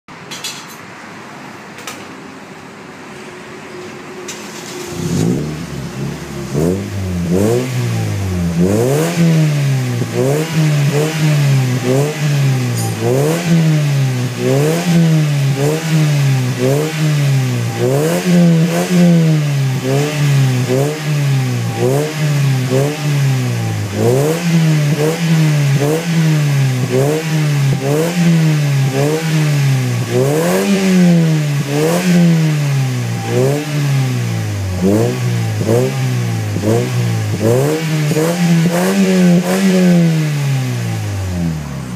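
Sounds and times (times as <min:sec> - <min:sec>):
car engine revving in blips: 0:04.3 - 0:41.9.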